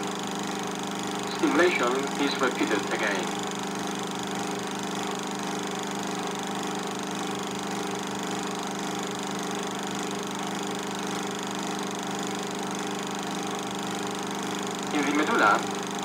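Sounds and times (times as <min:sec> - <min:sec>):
film projector running: 0:00.0 - 0:16.0.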